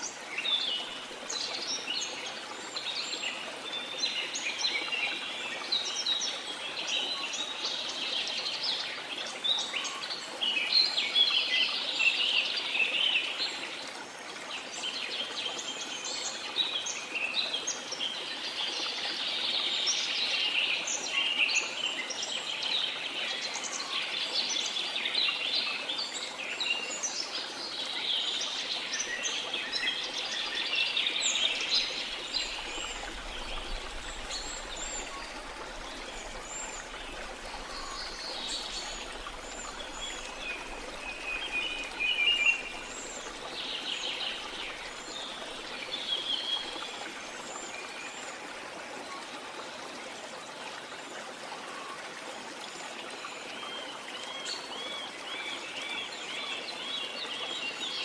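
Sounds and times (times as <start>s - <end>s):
flowing water hiss: 0.0s - 58.0s.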